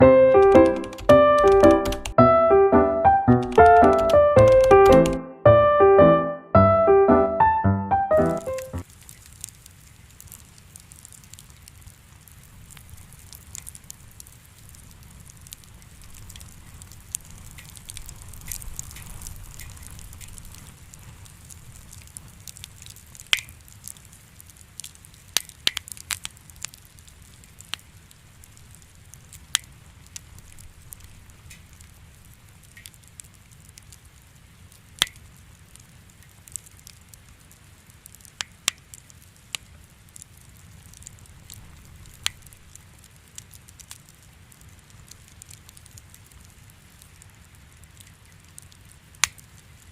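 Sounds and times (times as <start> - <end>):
wood fire crackling: 0.0 - 2.1, 8.4 - 49.9
sharp pops of fire: 8.8 - 34.0, 34.7 - 49.6.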